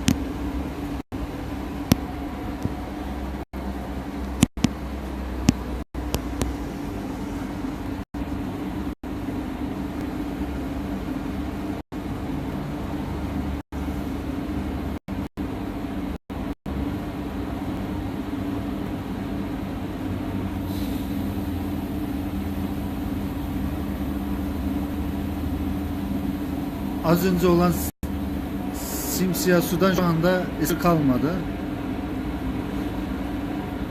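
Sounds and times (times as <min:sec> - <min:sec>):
machine pump humming: 0:00.0 - 0:33.9.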